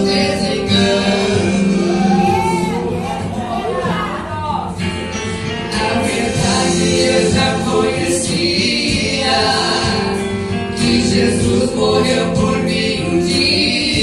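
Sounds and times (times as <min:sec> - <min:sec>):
man and woman singing: 0:00.0 - 0:03.8, 0:05.7 - 0:14.0
musical accompaniment: 0:00.0 - 0:14.0.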